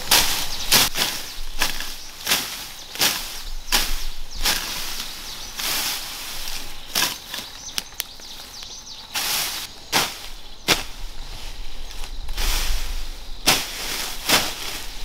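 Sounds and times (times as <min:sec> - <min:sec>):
blade swishing through grass: 0:00.0 - 0:07.9, 0:08.5 - 0:15.0
faint bird chirps: 0:00.0 - 0:12.3.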